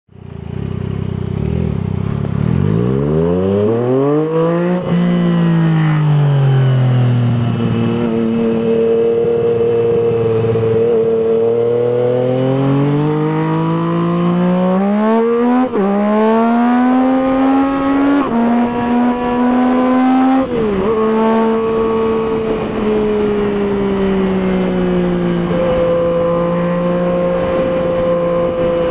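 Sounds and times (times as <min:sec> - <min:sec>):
motorcycle engine accelerating: 0:00.1 - 0:28.9.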